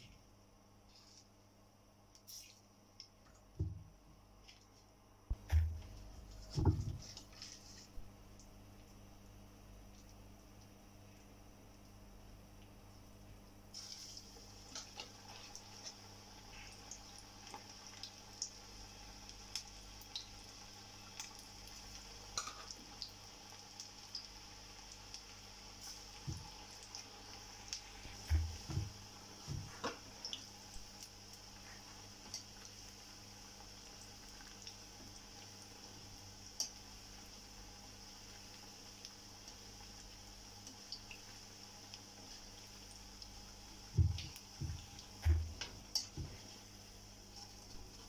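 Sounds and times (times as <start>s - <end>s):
batter deep-frying in oil: 0.8s - 48.0s.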